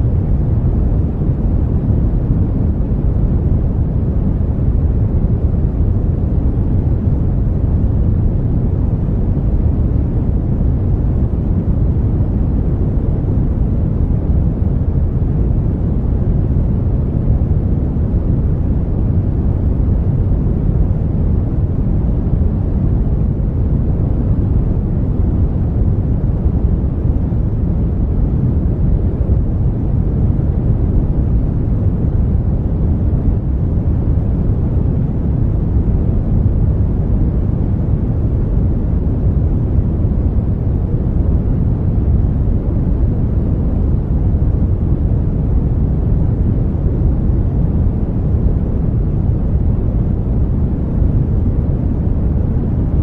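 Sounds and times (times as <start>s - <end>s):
brown noise rumbling rush: 0.0s - 53.0s.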